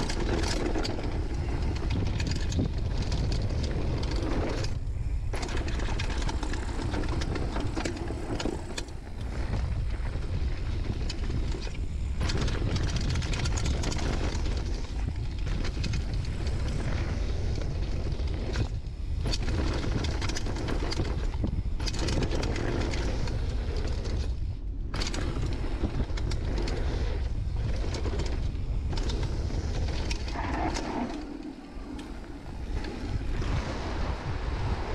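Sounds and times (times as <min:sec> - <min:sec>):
bike clattering over bumps: 0:00.0 - 0:33.8
tyres rolling on dirt and stones: 0:00.0 - 0:34.9
wind buffeting microphone: 0:00.0 - 0:34.9.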